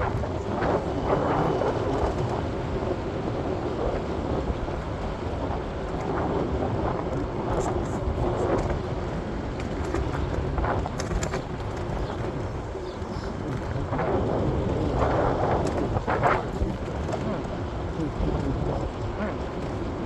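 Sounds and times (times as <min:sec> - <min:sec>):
moving vehicle rumble: 0:00.0 - 0:20.0.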